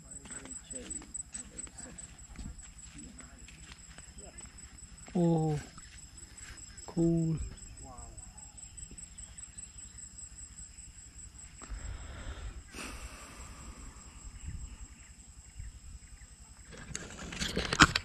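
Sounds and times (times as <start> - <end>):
insects calling: 0.0 - 18.0.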